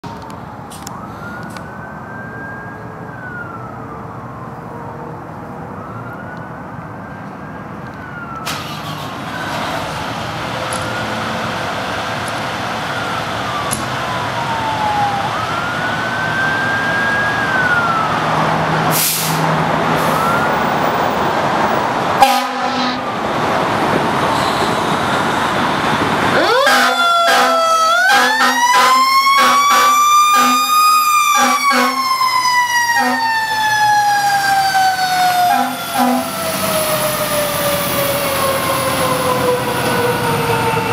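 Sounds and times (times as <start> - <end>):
fire engine siren wailing: 0.0 - 40.9.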